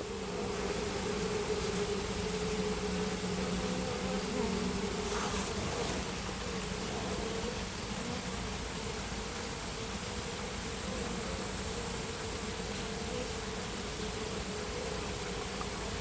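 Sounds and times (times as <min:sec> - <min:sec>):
honeybees humming: 0:00.0 - 0:16.0.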